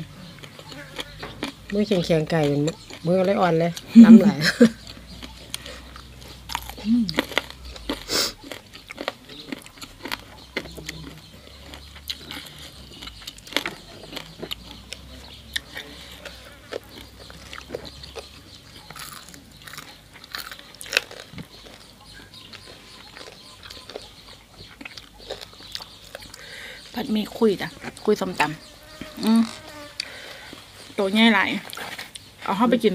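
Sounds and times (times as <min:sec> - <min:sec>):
people chewing and biting: 0:00.0 - 0:32.6.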